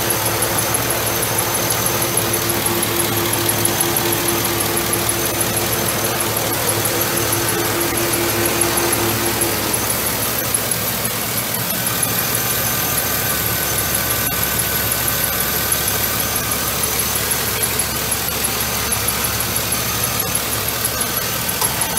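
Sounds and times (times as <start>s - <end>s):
light regular ticking: 0.0s - 21.9s
truck engine idling: 0.0s - 21.9s.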